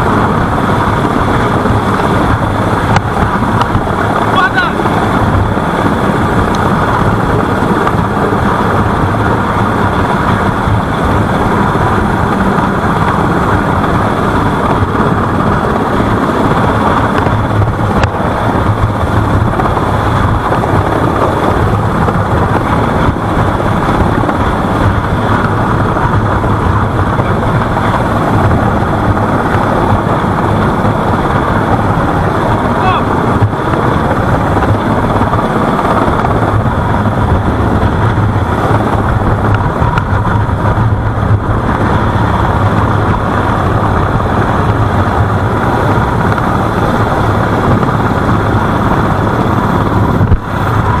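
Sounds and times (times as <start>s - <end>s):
loud engine drone: 0.0s - 51.0s
wind on microphone: 0.0s - 51.0s.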